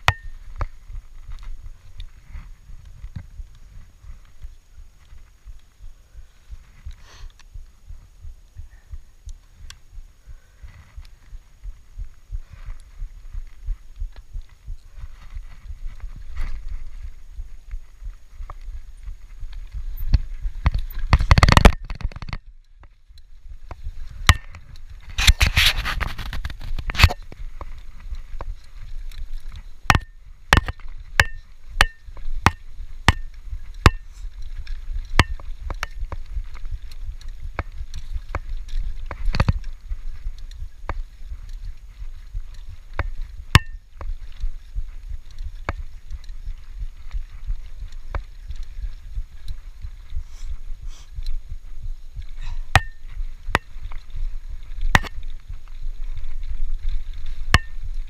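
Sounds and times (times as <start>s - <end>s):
bike knocking and rattling: 0.0s - 58.0s.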